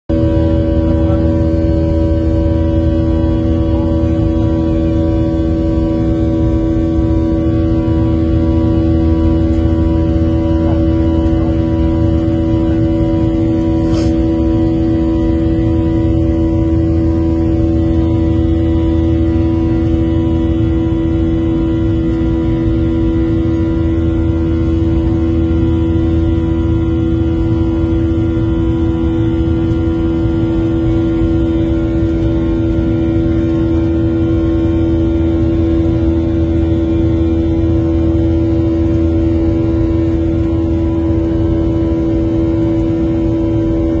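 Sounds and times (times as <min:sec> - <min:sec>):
airplane engine drone: 0:00.1 - 0:44.0
low rumble: 0:00.1 - 0:44.0.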